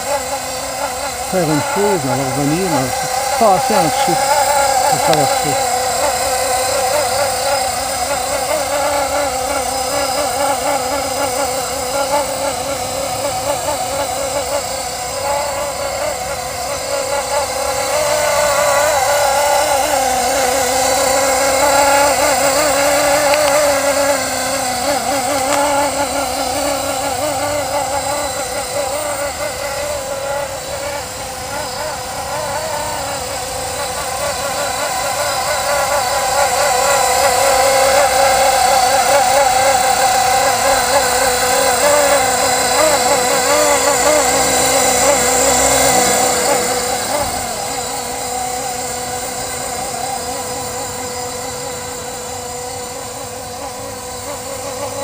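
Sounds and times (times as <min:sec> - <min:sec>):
model helicopter rotor whine: 0:00.0 - 0:55.0.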